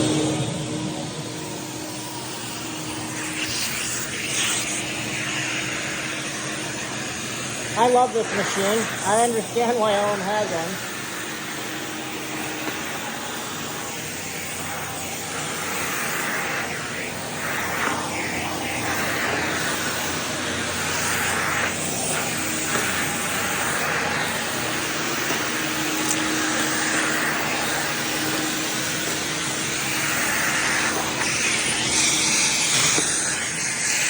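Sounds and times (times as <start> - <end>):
vacuum suction rushing: 0.0 - 34.0.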